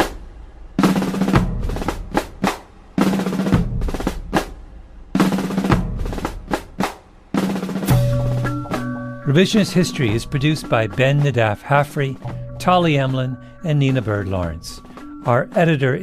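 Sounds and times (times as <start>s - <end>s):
snare drum rolls: 0.0s - 15.8s.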